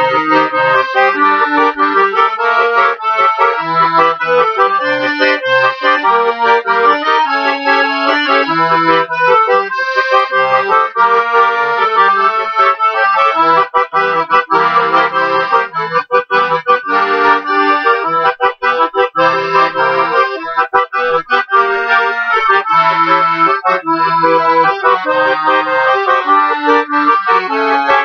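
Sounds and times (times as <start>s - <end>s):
piano accordion playing: 0.0s - 28.0s.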